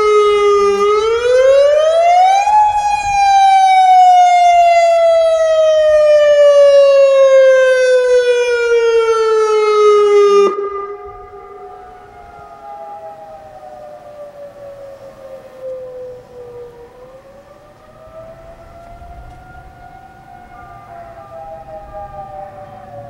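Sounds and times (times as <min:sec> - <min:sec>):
distant siren: 0:00.0 - 0:23.0
tornado siren wailing: 0:00.0 - 0:23.0.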